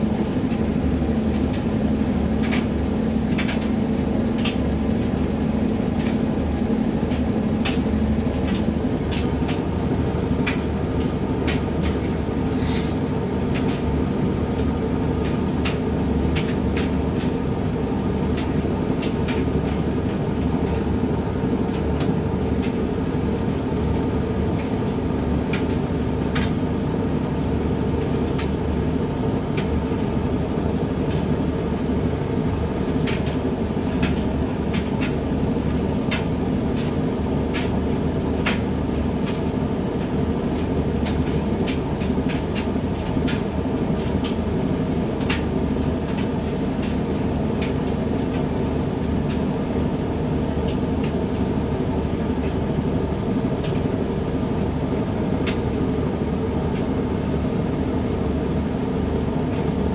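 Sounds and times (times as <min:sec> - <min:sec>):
washer-dryer motor and fan hum: 0:00.0 - 0:59.9.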